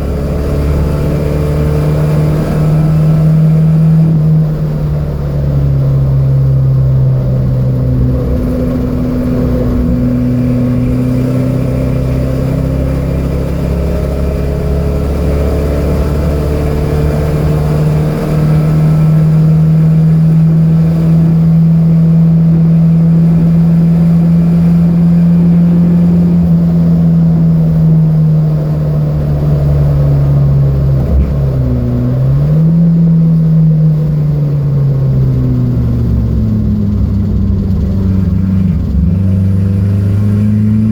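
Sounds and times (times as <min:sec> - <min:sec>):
car engine under load: 0:00.0 - 0:40.9.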